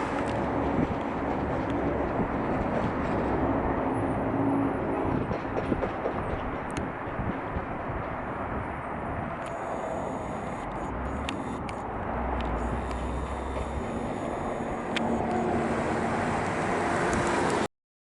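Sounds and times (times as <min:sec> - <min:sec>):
low engine hum: 0:00.0 - 0:17.7
tyre and road noise: 0:00.0 - 0:17.7.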